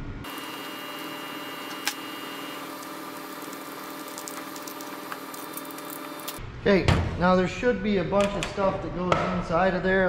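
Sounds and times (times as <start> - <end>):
workshop hum: 0.0 - 9.6.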